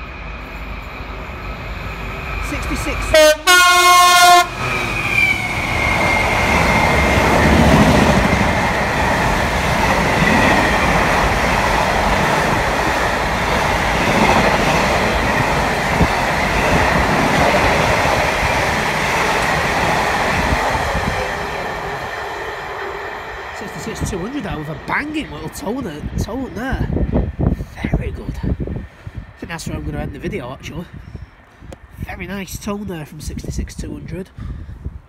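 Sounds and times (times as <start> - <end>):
wheels rumbling on rail: 0.0 - 33.9
freight train passing: 0.0 - 34.4.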